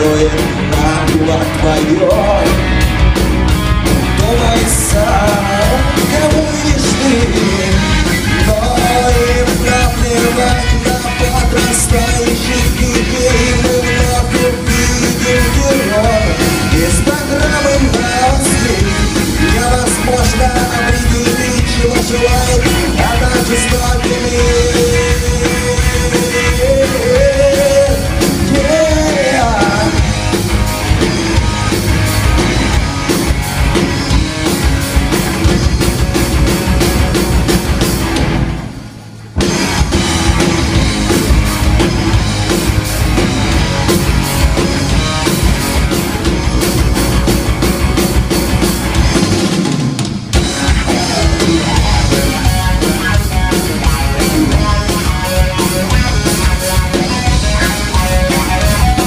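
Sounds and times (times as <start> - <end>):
drum kit: 0.0 - 59.0
electric guitar: 0.0 - 59.0.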